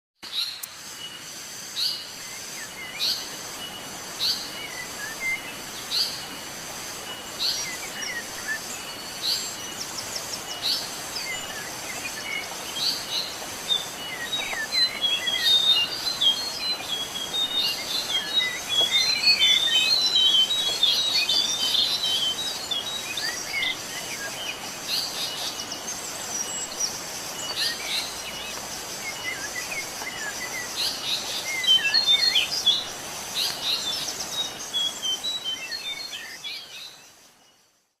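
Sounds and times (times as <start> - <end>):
steady background hiss: 0.2 - 38.0
bird chirping: 7.0 - 37.8.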